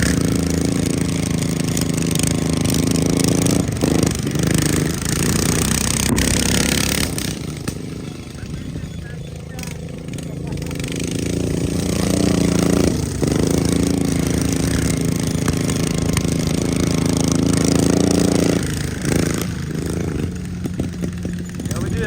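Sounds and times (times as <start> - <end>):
lawn mower engine revving: 0.0 - 22.0.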